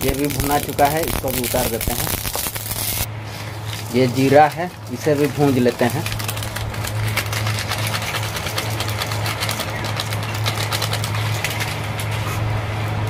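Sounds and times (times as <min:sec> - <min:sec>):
seeds crackling in hot pan: 0:00.0 - 0:03.1, 0:03.7 - 0:12.0
steady low hum: 0:00.0 - 0:13.0.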